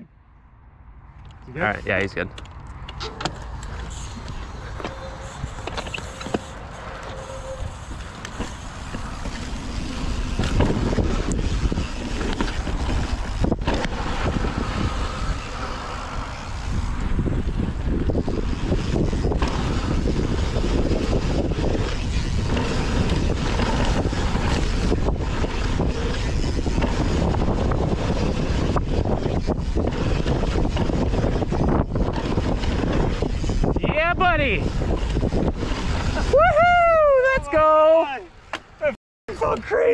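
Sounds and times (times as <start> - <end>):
wind buffeting microphone: 1.4 - 37.8
bike tyres rolling on dirt: 1.4 - 39.9.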